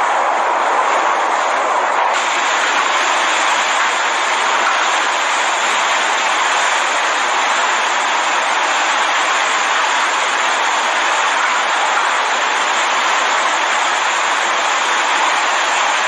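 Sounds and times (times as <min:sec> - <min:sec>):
storm rushing noise: 0:00.0 - 0:16.0.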